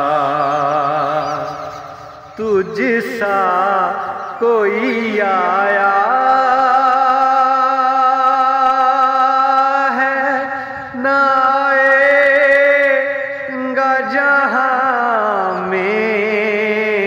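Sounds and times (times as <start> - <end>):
man singing a hymn unaccompanied: 0.0 - 17.0.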